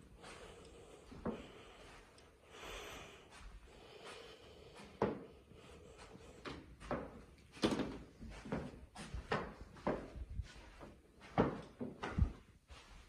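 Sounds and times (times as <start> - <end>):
footsteps on carpet: 0.0 - 13.0.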